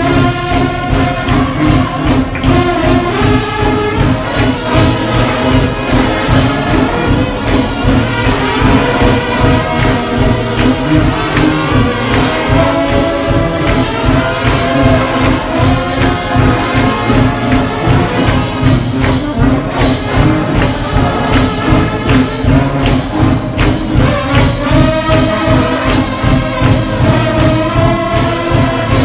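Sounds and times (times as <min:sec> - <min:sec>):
fast percussion beat: 0:00.0 - 0:29.0
trombone band playing chords: 0:00.0 - 0:29.0.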